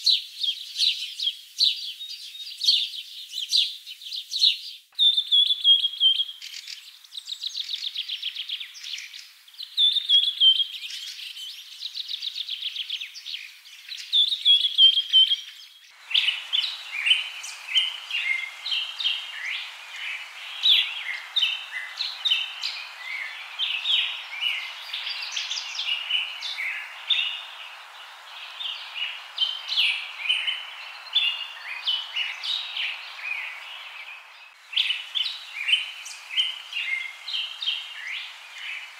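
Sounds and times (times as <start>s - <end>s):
faint steady hiss: 0.0s - 38.9s
chorus of birds chirping: 5.0s - 38.9s.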